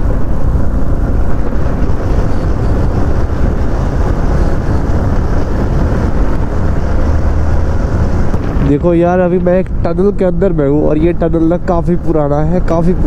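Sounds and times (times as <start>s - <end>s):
motorcycle engine drone: 0.0s - 13.0s
wind and road noise: 0.0s - 13.0s.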